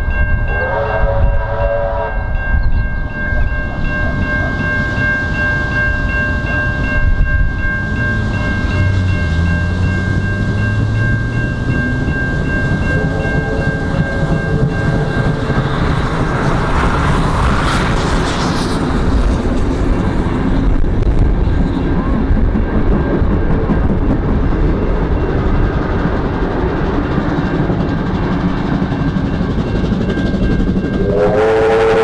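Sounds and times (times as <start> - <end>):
train carriages rumbling past: 0.0 - 32.0.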